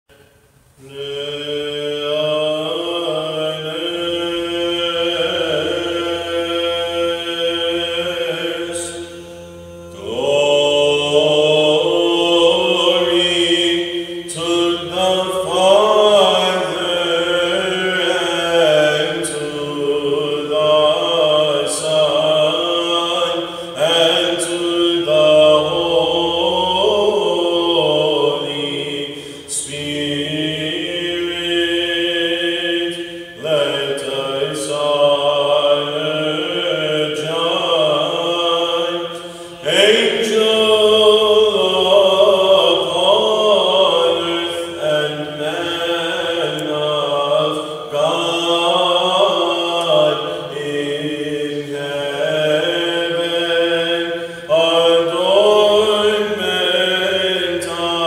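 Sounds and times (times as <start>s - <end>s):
low vocal drone: 0.7s - 58.0s
man chanting: 0.8s - 58.0s.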